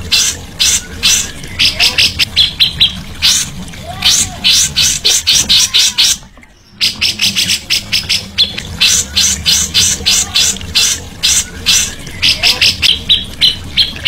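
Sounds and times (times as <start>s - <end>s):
songbird harsh rasping chatter: 0.0s - 14.0s.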